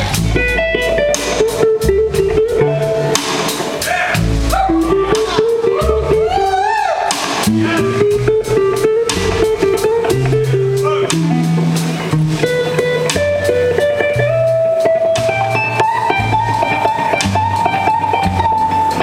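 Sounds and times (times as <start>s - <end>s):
blues-rock band playing: 0.0s - 19.0s
slide guitar gliding notes: 0.0s - 19.0s.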